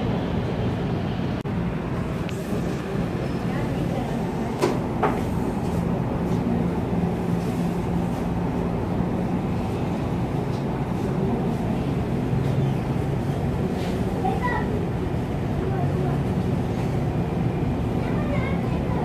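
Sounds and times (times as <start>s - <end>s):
machinery hum: 0.0s - 19.0s
roadside traffic rumble: 0.0s - 19.0s.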